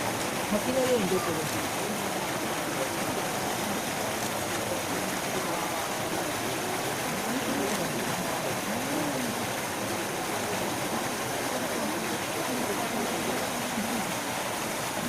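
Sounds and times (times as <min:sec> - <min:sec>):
elephant urinating and splashing: 0:00.0 - 0:15.0.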